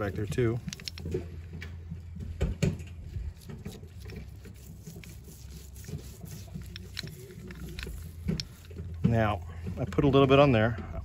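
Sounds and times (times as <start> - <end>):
small clicks and rustles: 0.3 - 9.2.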